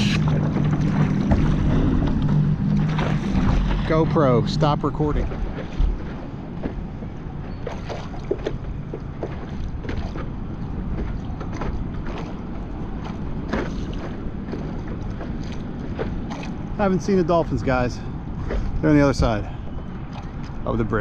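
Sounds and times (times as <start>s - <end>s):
water lapping against paddleboard: 0.0s - 21.0s
wind buffeting microphone: 0.0s - 21.0s.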